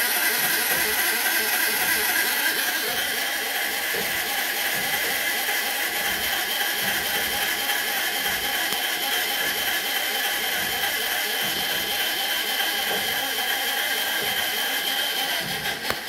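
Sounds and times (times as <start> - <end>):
hand-cranked oil lubricator turning: 0.0 - 16.0.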